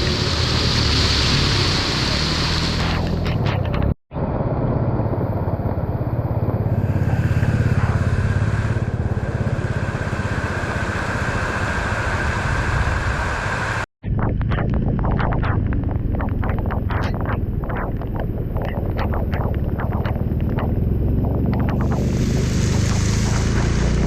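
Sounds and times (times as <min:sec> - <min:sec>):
vehicle engine throbbing: 0:00.0 - 0:24.0.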